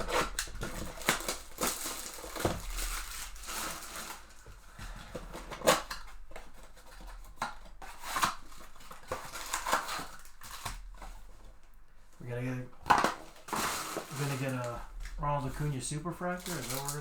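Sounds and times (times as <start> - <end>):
card wrappers crinkling: 0.0 - 4.6, 5.4 - 11.2, 12.3 - 17.0.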